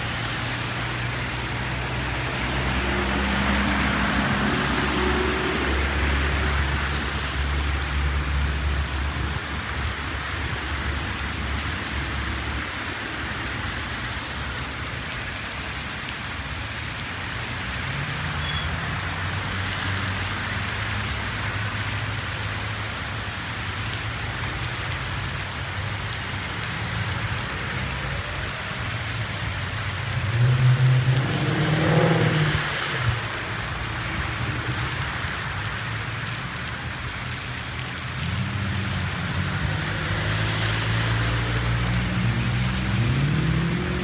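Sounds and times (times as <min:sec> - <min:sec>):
cars driving through water: 0:00.0 - 0:44.0
heavy rain on wet street: 0:00.0 - 0:44.0.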